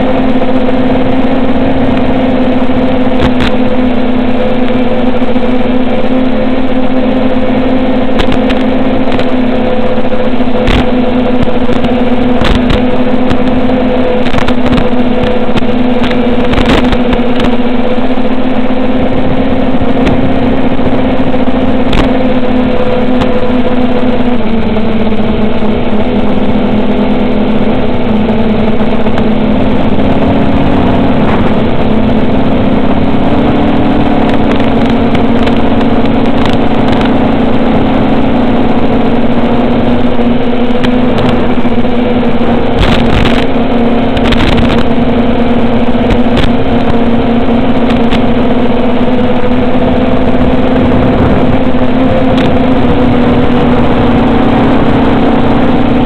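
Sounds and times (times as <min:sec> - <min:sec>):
quadcopter motors droning: 0:00.0 - 0:56.0.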